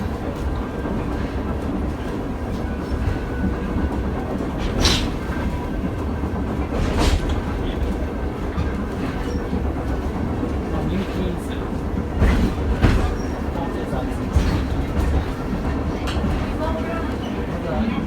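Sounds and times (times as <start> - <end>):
funicular car rumbling: 0.0 - 18.0.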